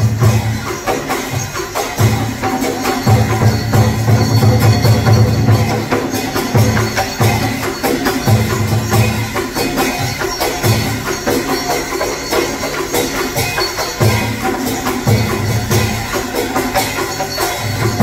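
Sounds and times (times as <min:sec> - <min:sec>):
busy percussion quick strikes: 0:00.0 - 0:18.0.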